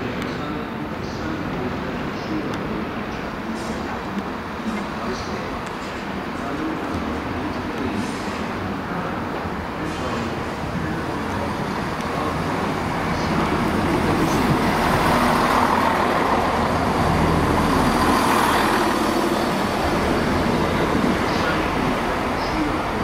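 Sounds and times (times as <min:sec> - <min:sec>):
diesel train engine: 0:00.0 - 0:23.0
train wheels on rails: 0:00.0 - 0:23.0.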